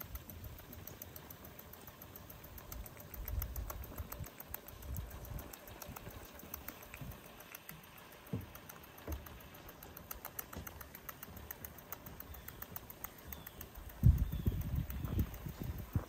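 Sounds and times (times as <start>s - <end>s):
toy steam engine ticking: 0.0s - 16.0s.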